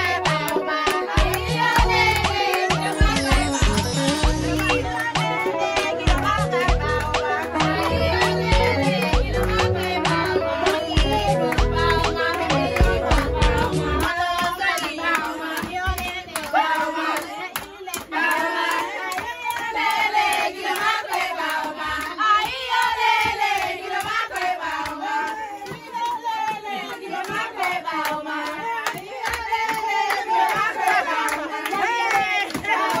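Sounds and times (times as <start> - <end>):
crowd chanting and singing: 0.0 - 33.0
hands clapping: 0.2 - 33.0.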